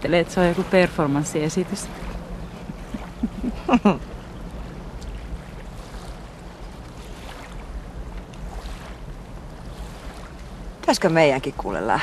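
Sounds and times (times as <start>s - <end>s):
faint sea water washing: 0.0s - 12.0s
wind rumbling on microphone: 0.0s - 12.0s.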